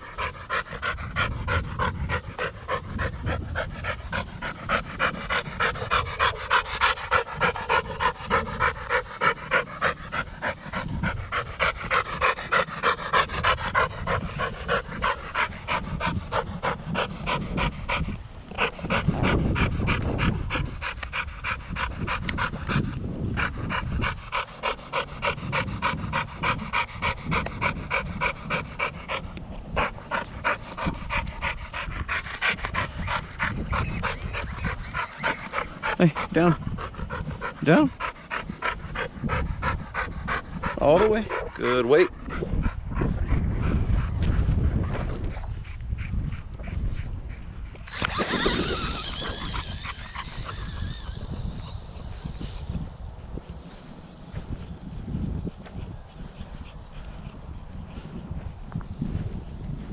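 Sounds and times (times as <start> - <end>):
dog panting: 0.0 - 59.9.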